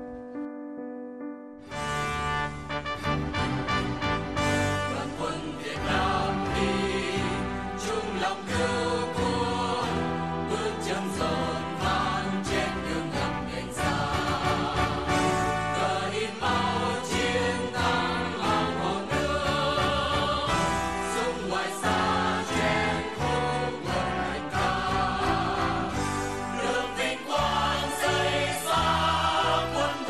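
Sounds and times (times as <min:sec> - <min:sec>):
instrumental accompaniment: 0:00.1 - 0:30.0
children's choir singing: 0:04.5 - 0:30.0.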